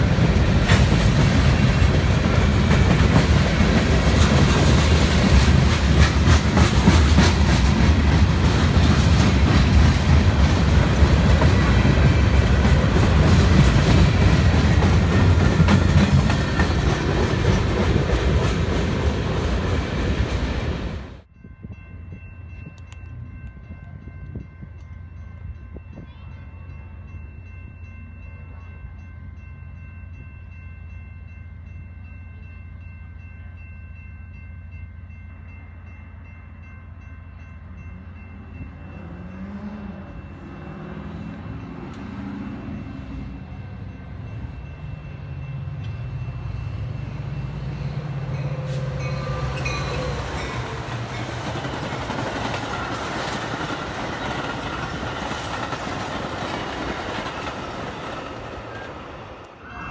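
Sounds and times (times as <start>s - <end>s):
train wheels rumbling: 0.0s - 28.5s, 35.4s - 59.9s.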